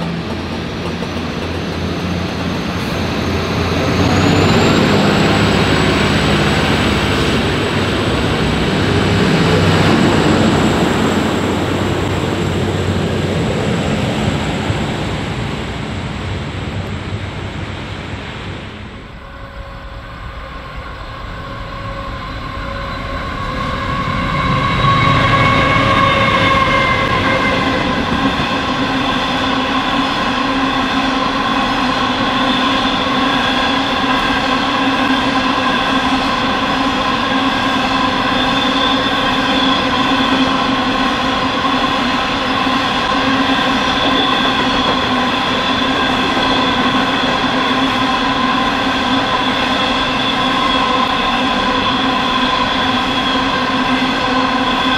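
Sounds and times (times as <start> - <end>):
coal train passing: 0.0 - 54.9.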